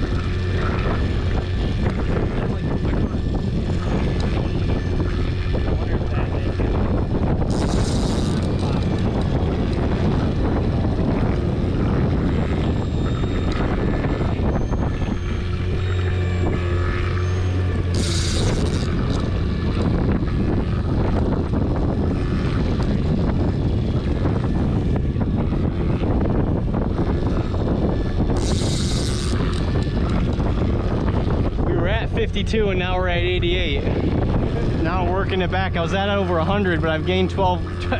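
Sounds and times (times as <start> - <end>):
boat motor running: 0.0 - 37.9
wind buffeting microphone: 0.0 - 37.9.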